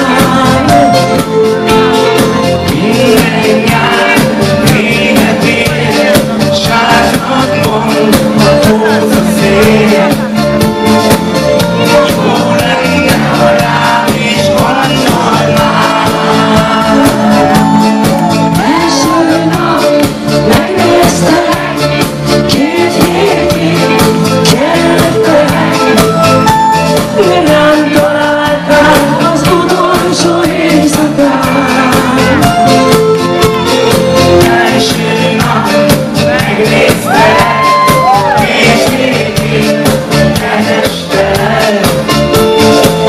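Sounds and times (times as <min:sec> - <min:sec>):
drum kit beat: 0:00.0 - 0:43.0
electric guitar: 0:00.0 - 0:43.0
person singing: 0:00.0 - 0:43.0.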